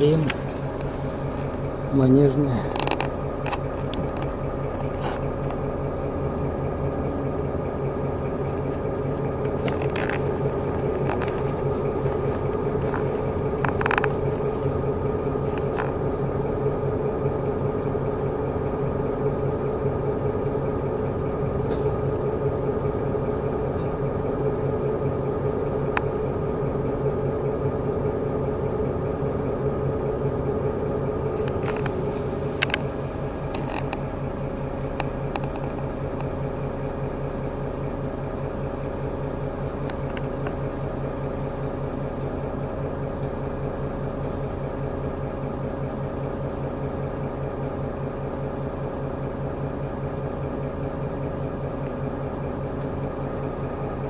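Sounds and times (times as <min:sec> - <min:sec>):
bus engine humming with whine: 0:00.0 - 0:54.0.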